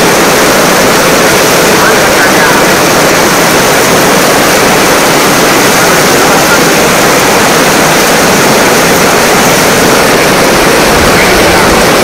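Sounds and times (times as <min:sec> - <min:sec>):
heavy rain on stone paving: 0:00.0 - 0:12.0.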